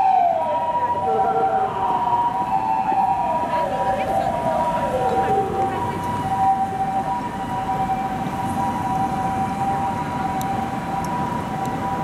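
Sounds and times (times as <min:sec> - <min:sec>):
falling siren wail: 0:00.0 - 0:12.0
street traffic: 0:00.0 - 0:12.0
two-tone ambulance siren: 0:00.0 - 0:12.0.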